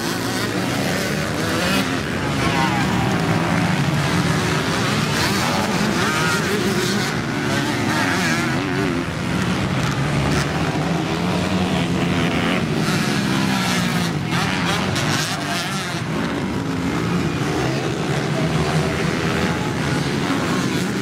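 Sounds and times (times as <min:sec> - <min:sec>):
dirt bike engines racing past: 0:00.0 - 0:21.0.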